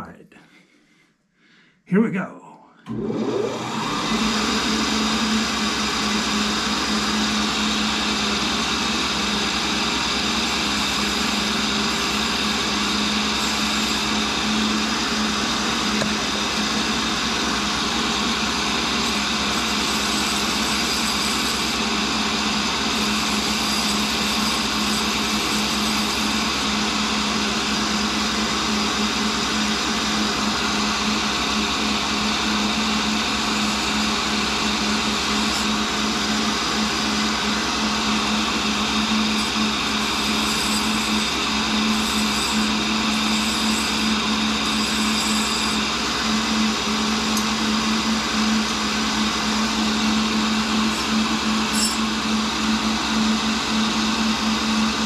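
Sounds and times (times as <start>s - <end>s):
grinder motor humming with high hiss: 2.9s - 55.0s.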